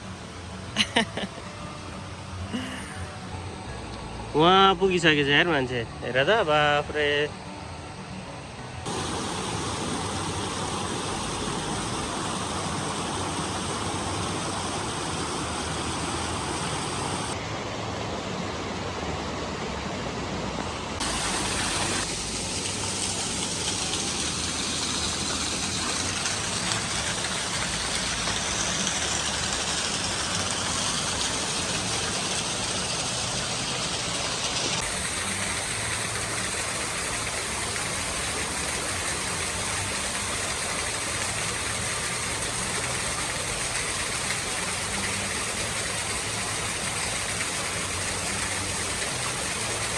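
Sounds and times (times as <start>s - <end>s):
waterfall rushing: 8.5s - 49.9s.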